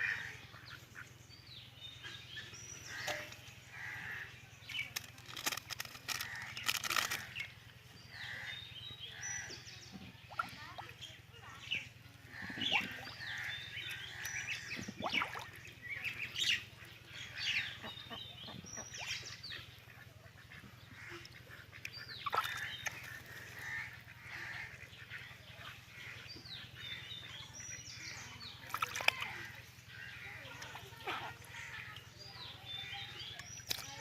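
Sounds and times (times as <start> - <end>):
birds calling and chirping: 0.0 - 34.0.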